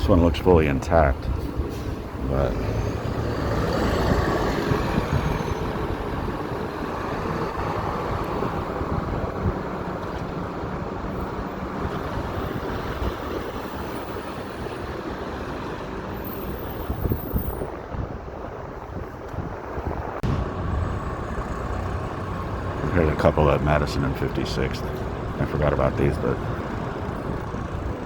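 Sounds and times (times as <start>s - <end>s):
street traffic passing: 0.0s - 28.0s.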